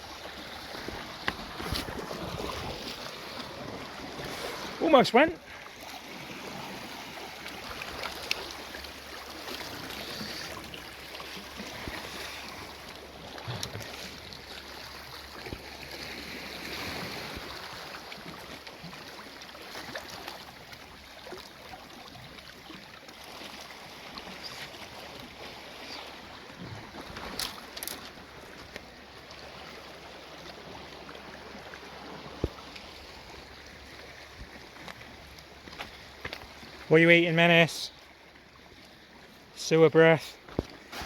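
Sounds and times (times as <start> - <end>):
sea water lapping over rocks: 0.0 - 41.0.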